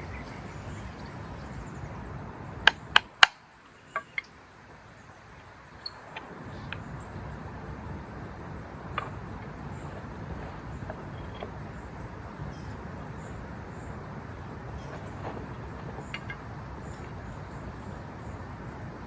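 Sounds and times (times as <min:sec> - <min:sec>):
low background noise: 0:00.0 - 0:19.0.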